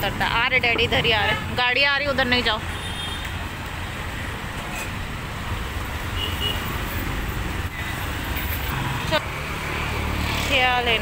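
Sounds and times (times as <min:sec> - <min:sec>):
engine rumble of passing vehicles: 0:00.0 - 0:11.0
street traffic noise: 0:00.0 - 0:11.0.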